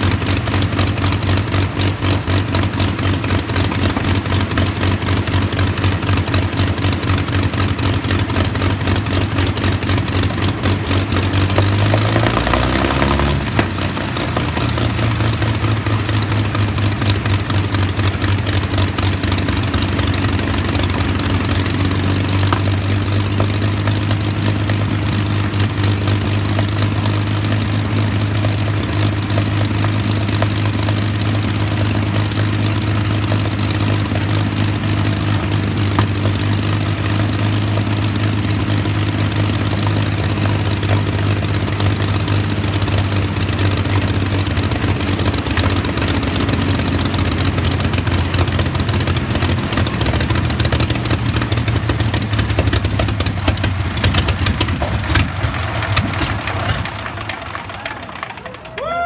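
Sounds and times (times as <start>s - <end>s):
aero engine running with propeller: 0.0s - 58.8s.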